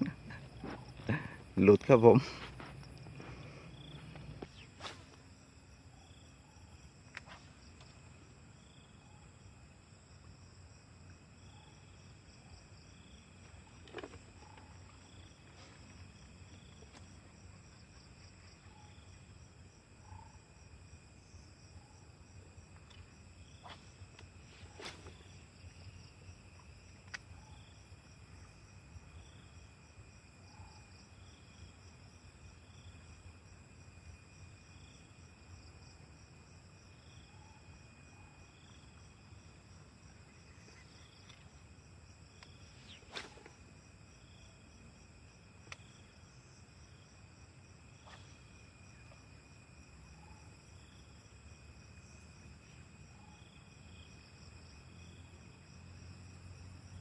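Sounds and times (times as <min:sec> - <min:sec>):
insects buzzing: 0:00.0 - 0:20.0, 0:20.6 - 0:57.0.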